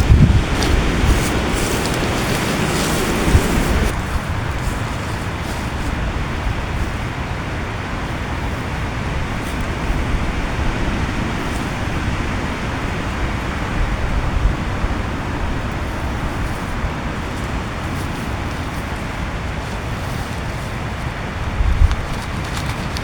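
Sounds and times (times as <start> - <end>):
heavy rain hissing: 0.0 - 21.6
strong wind rumble: 0.0 - 23.0.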